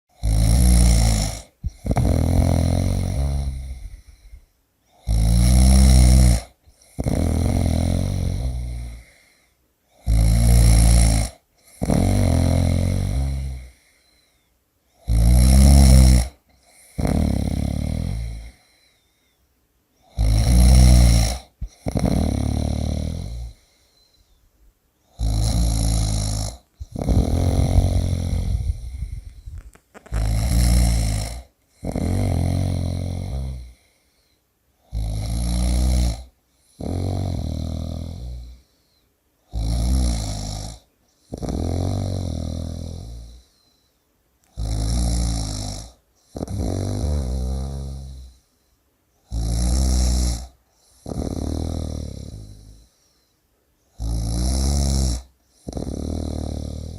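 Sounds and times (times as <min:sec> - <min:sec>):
person snoring: 0:00.1 - 0:19.1, 0:20.0 - 0:24.4, 0:25.0 - 0:34.2, 0:34.8 - 0:43.7, 0:44.5 - 0:48.5, 0:49.2 - 0:53.2, 0:53.9 - 0:56.9.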